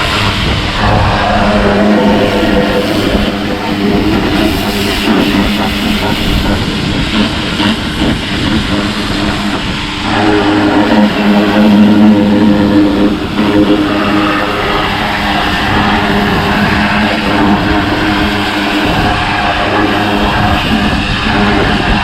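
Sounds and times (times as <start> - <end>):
pressure washer motor hum: 0.0 - 22.0
water jet hissing: 0.0 - 22.0.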